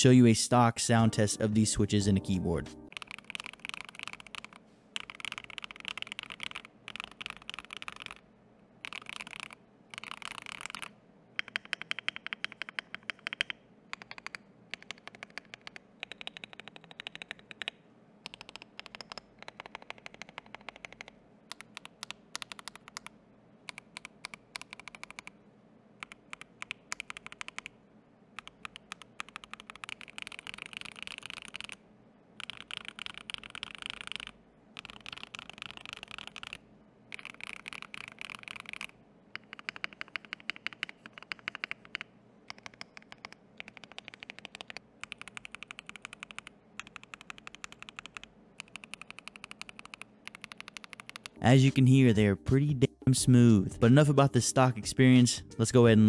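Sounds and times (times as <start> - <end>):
mechanical keyboard typing: 0.9 - 8.2, 8.8 - 23.1, 23.7 - 25.4, 26.0 - 27.8, 28.4 - 31.8, 32.4 - 51.8.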